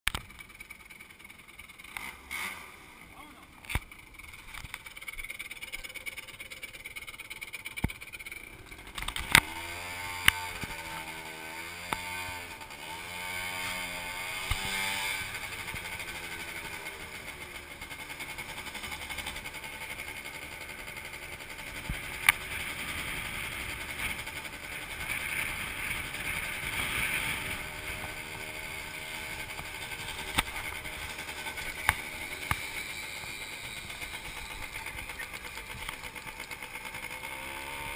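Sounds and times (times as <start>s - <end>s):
motor scooter engine: 0.1s - 37.9s.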